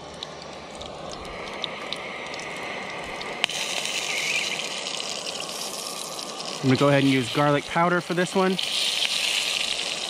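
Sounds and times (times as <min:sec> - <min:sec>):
tomatoes sizzling in hot oil: 0:00.0 - 0:10.0.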